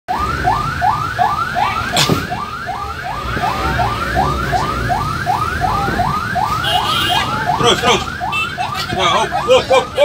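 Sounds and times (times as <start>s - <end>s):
emergency siren rising sweeps: 0.1s - 10.0s
low vehicle rumble: 0.1s - 10.0s.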